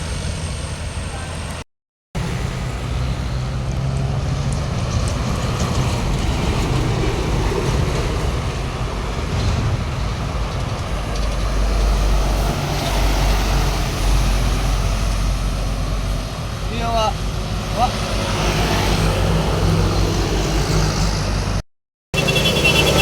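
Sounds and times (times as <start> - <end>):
heavy vehicle engine and tyre rumble: 0.0 - 1.6, 2.2 - 21.6.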